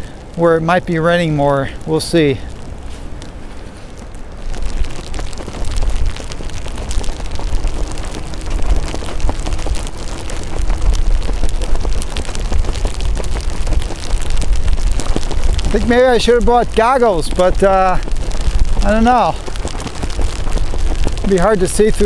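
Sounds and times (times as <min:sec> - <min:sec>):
raindrop ticks: 0:00.0 - 0:22.0
wind buffeting microphone: 0:00.0 - 0:22.0.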